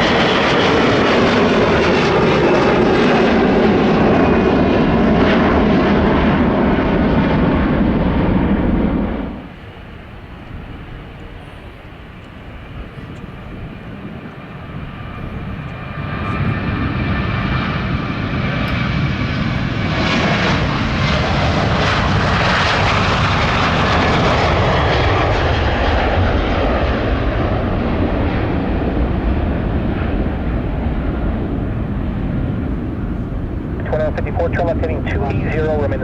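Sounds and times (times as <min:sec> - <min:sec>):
jet engines passing: 0:00.0 - 0:36.0.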